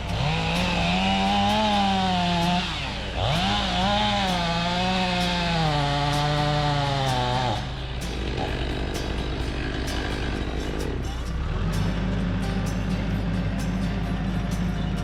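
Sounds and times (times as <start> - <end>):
chainsaw cutting wood: 0.0 - 12.8.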